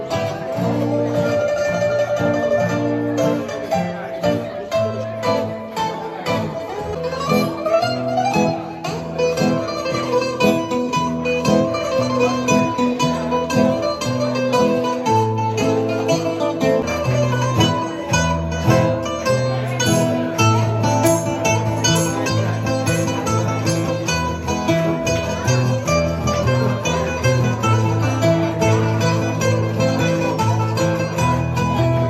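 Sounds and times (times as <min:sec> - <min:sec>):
acoustic guitar chords: 0:00.0 - 0:32.0
bouzouki melody: 0:00.0 - 0:32.0.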